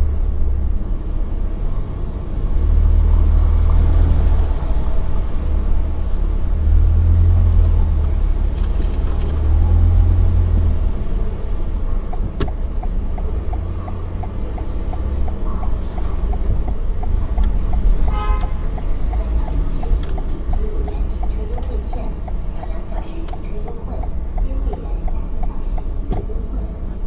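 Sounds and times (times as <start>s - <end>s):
car cabin road rumble: 0.0s - 27.0s
turn signal ticking: 3.4s - 27.0s.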